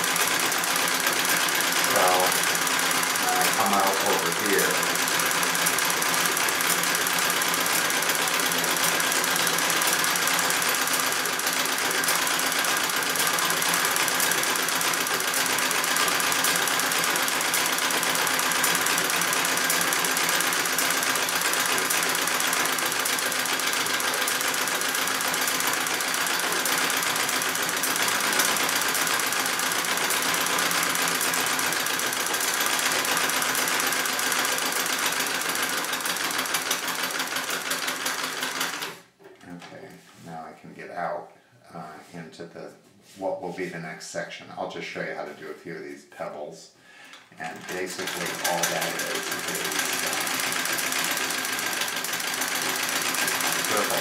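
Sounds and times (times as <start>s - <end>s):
treadle sewing machine clattering: 0.0s - 39.7s, 47.3s - 54.0s.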